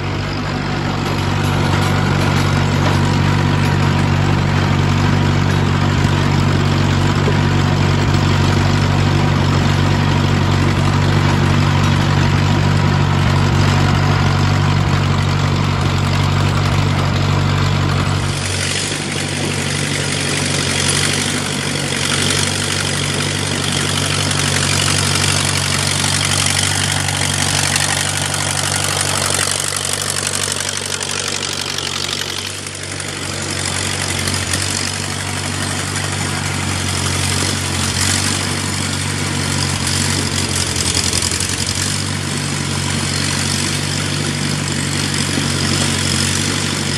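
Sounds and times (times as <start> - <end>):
road grader engine running: 0.0 - 46.9.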